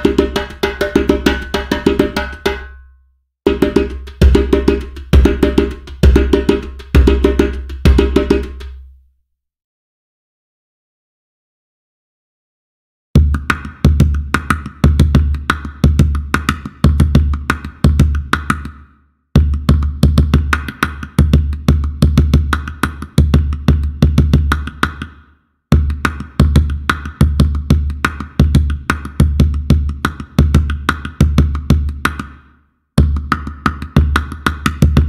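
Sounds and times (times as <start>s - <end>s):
gourd drum rhythm: 0.0s - 9.0s, 13.2s - 18.8s, 19.4s - 32.4s, 33.0s - 35.0s.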